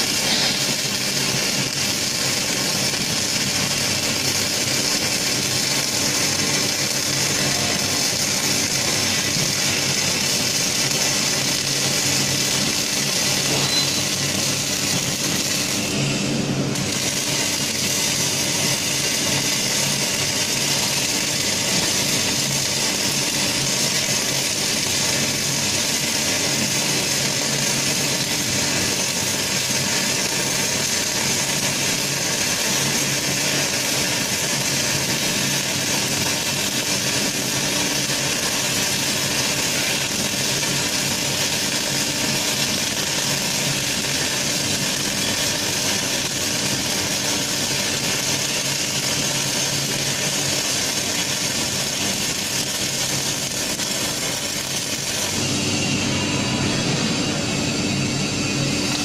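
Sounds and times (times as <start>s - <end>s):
welding arc hissing: 0.0s - 59.0s.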